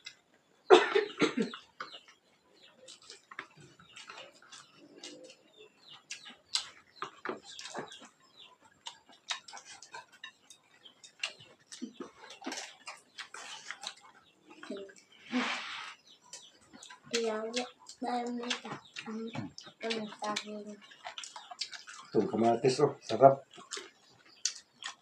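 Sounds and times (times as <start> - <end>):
lips smacking while chewing: 2.8 - 15.2, 15.9 - 22.2, 23.1 - 25.0.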